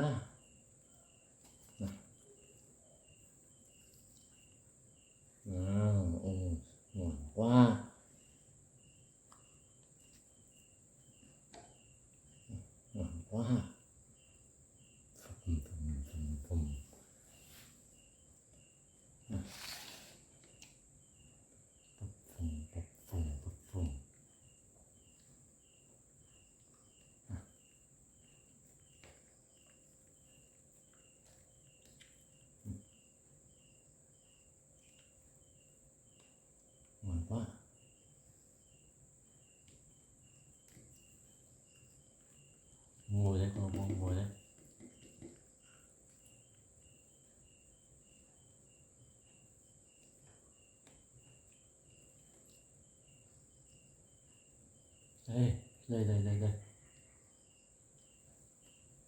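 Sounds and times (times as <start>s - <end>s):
insect chirping: 0.0s - 59.0s
steady high-pitched hiss: 0.0s - 59.0s.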